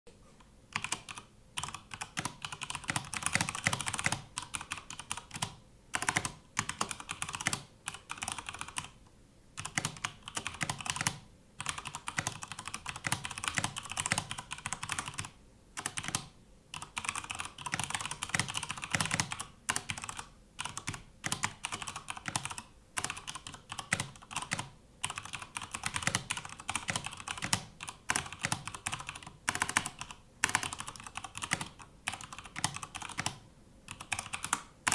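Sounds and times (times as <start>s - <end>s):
mechanical keyboard typing: 0.7s - 9.0s, 9.6s - 34.9s.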